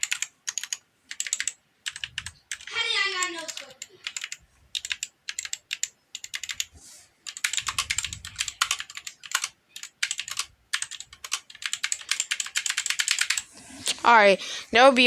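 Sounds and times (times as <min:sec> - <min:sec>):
mechanical keyboard typing: 0:00.0 - 0:13.5.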